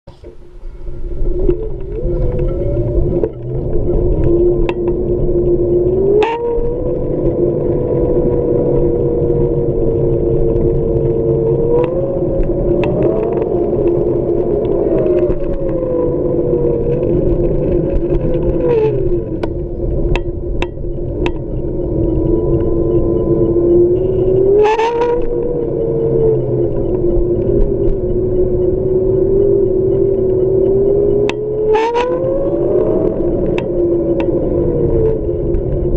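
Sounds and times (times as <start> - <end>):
electric scooter motor whine: 0.1 - 35.9.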